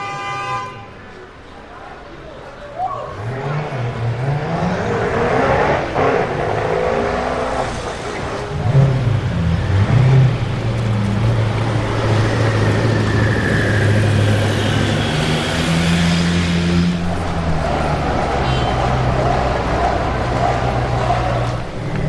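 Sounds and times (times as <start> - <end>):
car engine revving and pulling away: 3.1 - 22.0.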